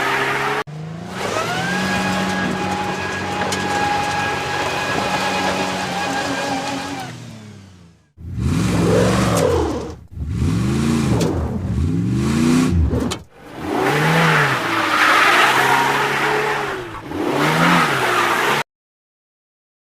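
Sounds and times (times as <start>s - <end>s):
truck engine revving: 0.0s - 18.6s.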